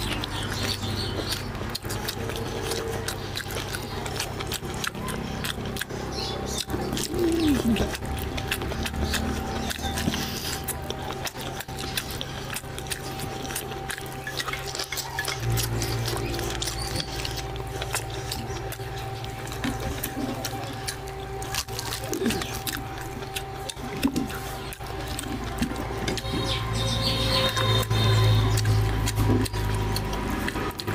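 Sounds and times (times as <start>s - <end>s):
wet chewing and lip-smacking: 0.0s - 30.9s
low background music: 0.3s - 30.9s.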